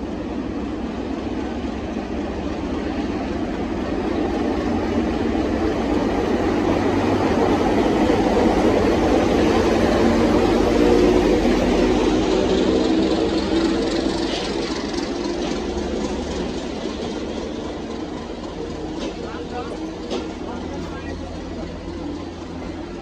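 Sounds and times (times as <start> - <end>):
locomotive engine running: 0.0 - 23.0.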